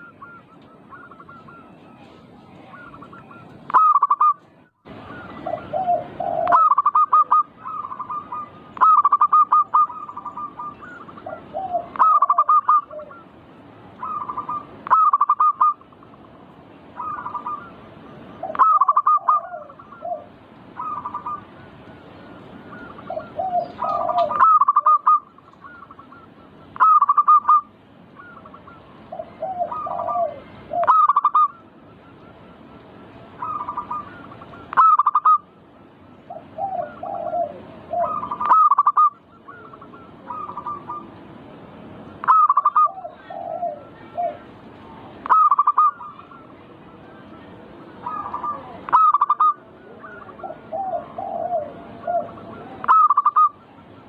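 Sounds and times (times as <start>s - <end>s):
dove cooing: 0.0s - 13.4s, 14.0s - 35.5s, 36.3s - 41.2s, 42.1s - 54.0s.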